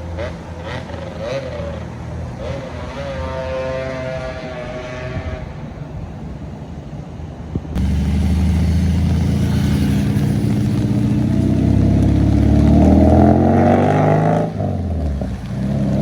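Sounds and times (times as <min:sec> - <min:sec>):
heavy vehicle engine: 0:00.0 - 0:16.0.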